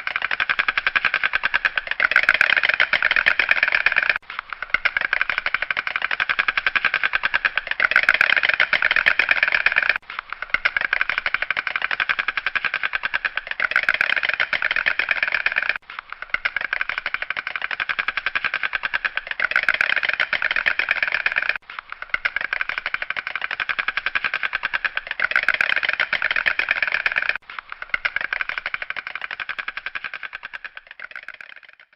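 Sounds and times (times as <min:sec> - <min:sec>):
stork bill-clattering: 0:00.0 - 0:31.9.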